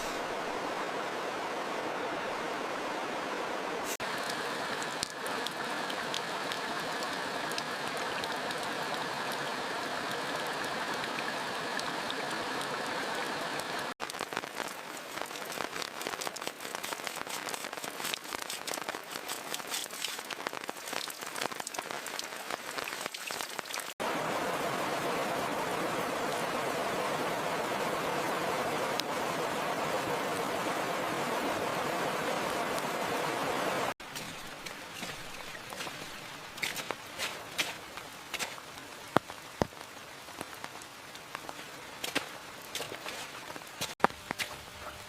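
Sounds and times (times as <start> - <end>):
heavy rain falling: 0.0 - 44.3
raindrops striking a surface: 3.9 - 45.0.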